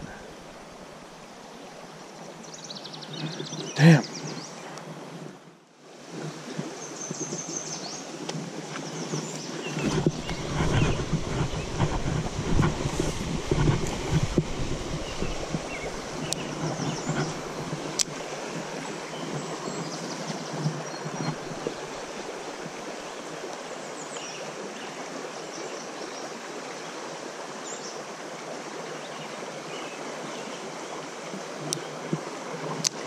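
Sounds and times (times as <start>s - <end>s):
stream running over riffle: 0.0s - 33.0s.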